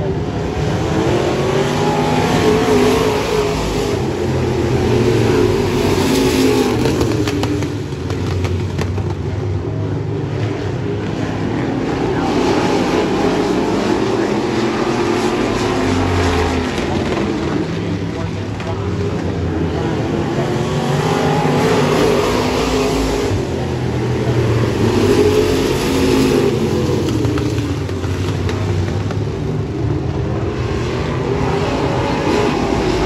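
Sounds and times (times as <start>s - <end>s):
racing car engines: 0.0s - 33.0s.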